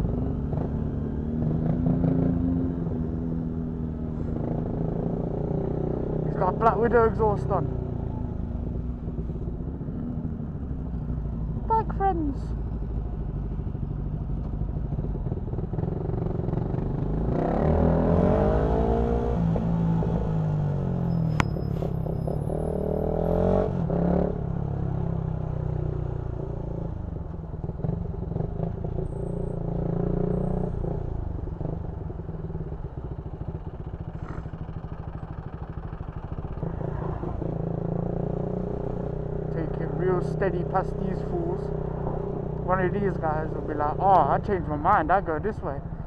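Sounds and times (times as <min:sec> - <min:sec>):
road and wind noise: 0:00.0 - 0:46.0.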